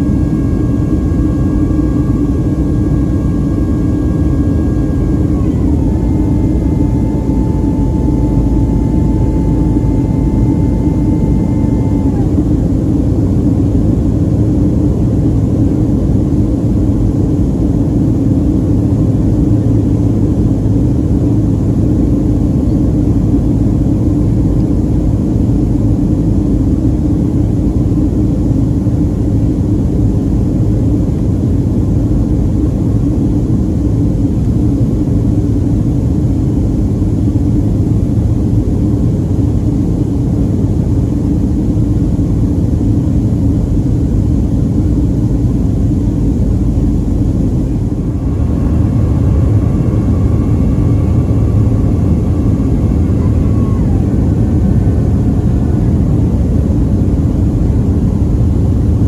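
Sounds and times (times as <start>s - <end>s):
airplane cabin rumble: 0.0s - 59.0s
constant hum: 0.0s - 59.0s.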